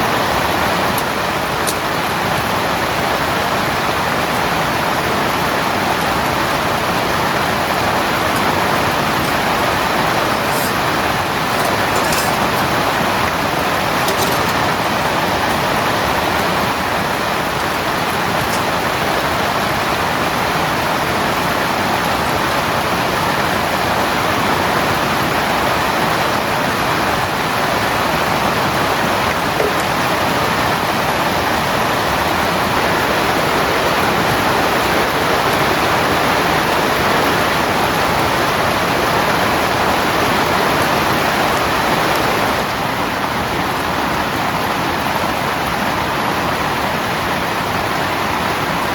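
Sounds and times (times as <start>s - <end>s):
heavy rain on a tent: 0.0s - 48.9s.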